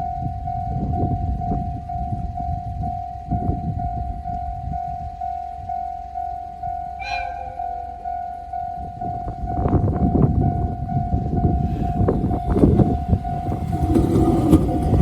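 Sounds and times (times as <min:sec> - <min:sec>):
level crossing warning bell: 0:00.0 - 0:15.0
train wheels rumbling and clattering: 0:00.0 - 0:15.0.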